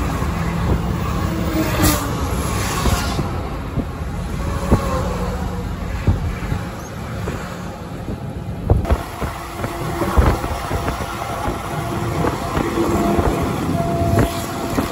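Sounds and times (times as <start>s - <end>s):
car engine and tyre drone: 0.0s - 14.9s.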